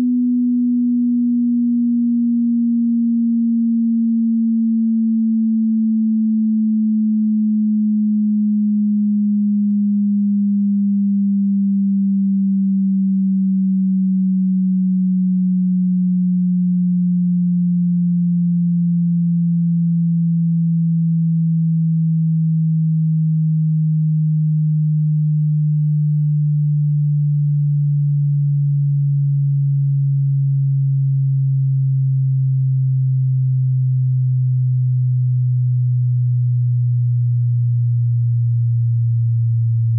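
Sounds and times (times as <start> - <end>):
falling sine tone sweep: 0.0 - 39.9.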